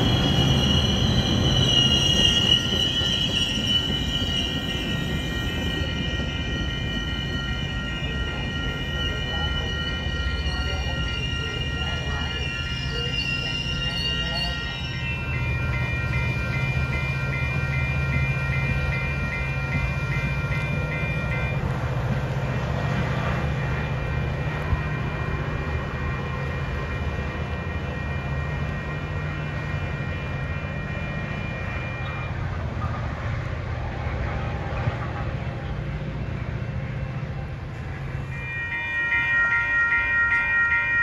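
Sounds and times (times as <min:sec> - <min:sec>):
railroad crossing bells ringing: 0:00.0 - 0:41.0
train rumbling past: 0:00.0 - 0:41.0.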